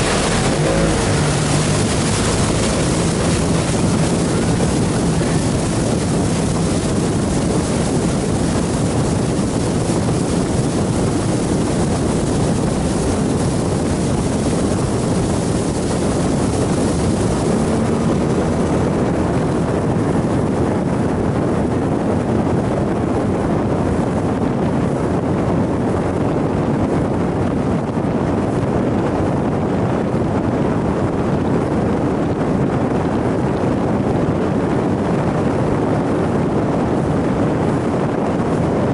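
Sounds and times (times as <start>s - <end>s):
outboard motor running: 0.0s - 38.9s
water rushing past hull: 0.0s - 38.9s
wind buffeting microphone: 0.0s - 38.9s.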